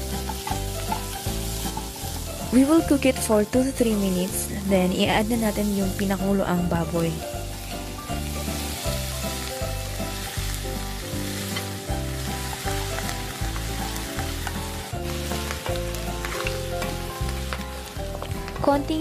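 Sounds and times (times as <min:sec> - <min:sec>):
background music with bass line: 0:00.0 - 0:19.0
meat sizzling in hot oil: 0:00.0 - 0:19.0.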